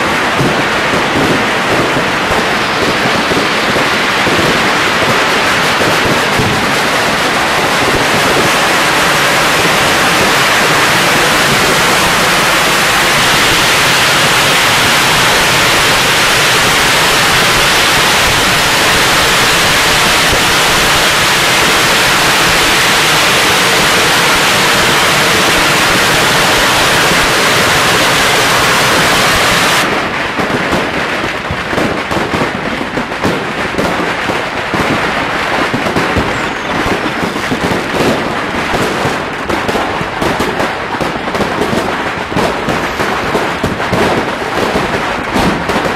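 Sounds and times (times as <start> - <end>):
firecrackers crackling: 0.0 - 45.9
fireworks popping and banging: 0.0 - 45.9.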